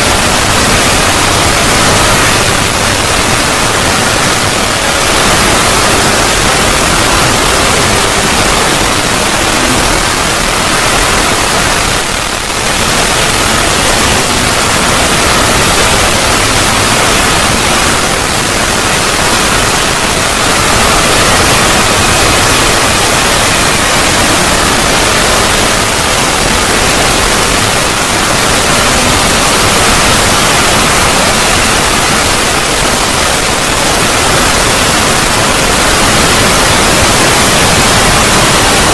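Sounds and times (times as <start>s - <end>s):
loud static-like noise: 0.0s - 38.9s.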